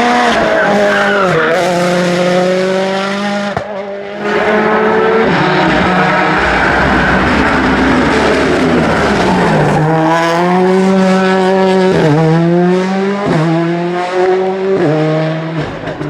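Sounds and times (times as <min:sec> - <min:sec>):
rally car engine at high revs: 0:00.0 - 0:16.0.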